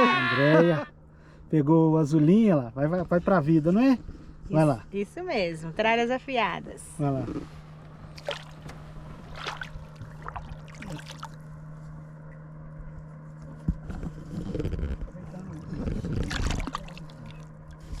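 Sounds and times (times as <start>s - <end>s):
boat motor running: 2.0s - 18.0s.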